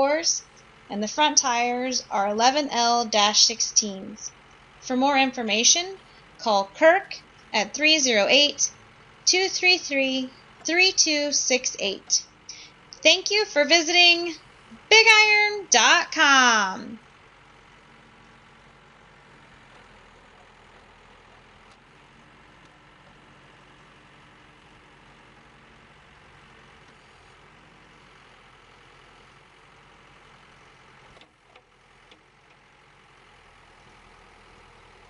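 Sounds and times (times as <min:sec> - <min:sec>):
faint diesel engine idling: 0:00.0 - 0:35.0.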